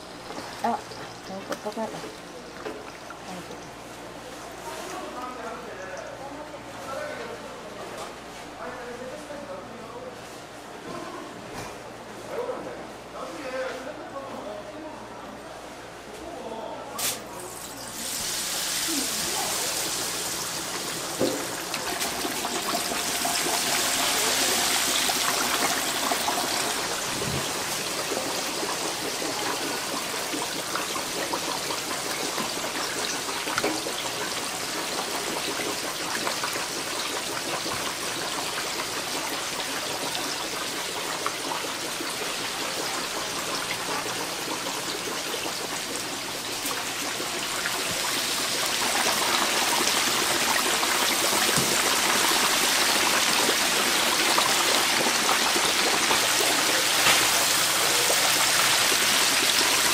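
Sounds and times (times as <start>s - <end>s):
chicken deep-frying in oil: 0.0s - 7.0s, 17.0s - 59.9s.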